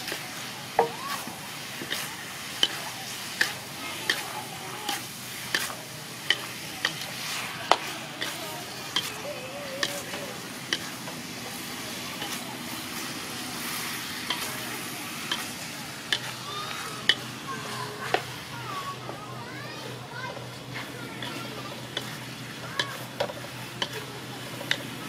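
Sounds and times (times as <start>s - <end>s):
spatula scraping a metal wok: 0.0s - 18.5s, 20.3s - 25.0s
food sizzling: 0.0s - 25.0s.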